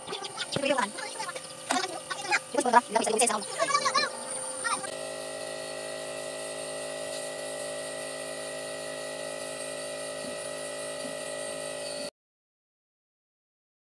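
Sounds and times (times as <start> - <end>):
air compressor buzzing hum: 0.0 - 12.1.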